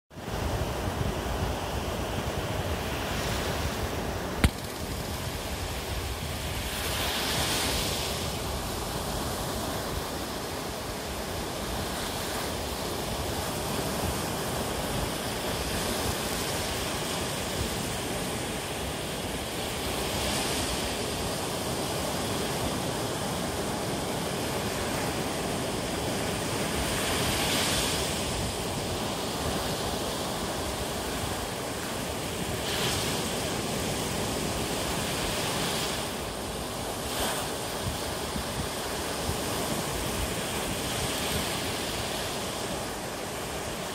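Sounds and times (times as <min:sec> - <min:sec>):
waves breaking on a beach: 0:00.1 - 0:43.9.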